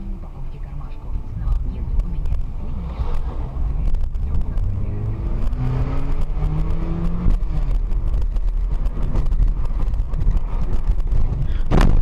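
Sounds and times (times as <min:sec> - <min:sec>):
car engine accelerating: 0:00.0 - 0:12.0
tyres rumbling on rough road: 0:00.0 - 0:12.0
knocks and bumps from road: 0:01.4 - 0:12.0.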